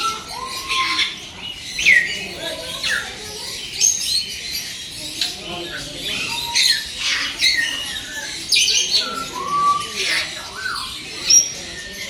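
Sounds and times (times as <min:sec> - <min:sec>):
parrots squawking and chirping: 0:00.0 - 0:12.0.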